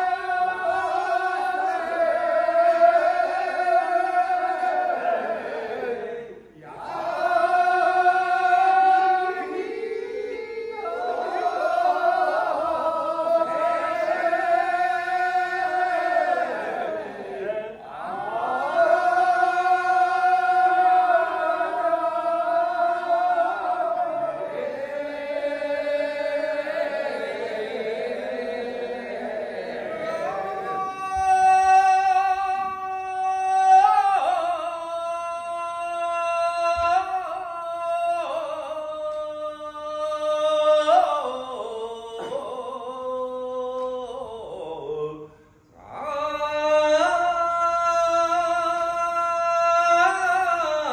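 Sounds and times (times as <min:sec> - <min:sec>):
men chanting in unison: 0:00.0 - 0:50.9.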